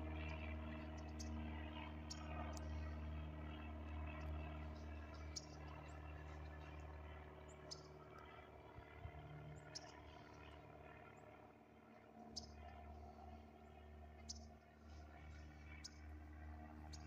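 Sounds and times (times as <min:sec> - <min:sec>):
distant airplane drone: 0:00.0 - 0:17.0.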